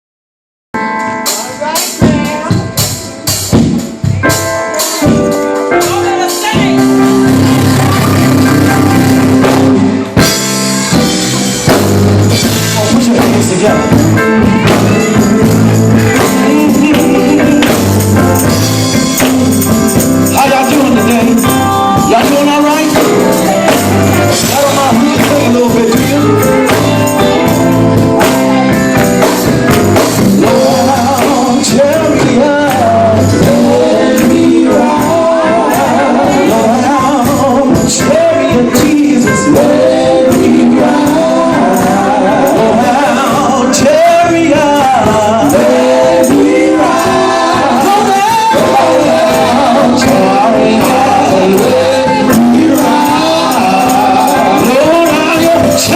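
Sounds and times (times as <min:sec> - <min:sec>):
band music with steady beat: 0:00.8 - 0:55.9
voices singing: 0:06.2 - 0:10.4, 0:12.3 - 0:55.9.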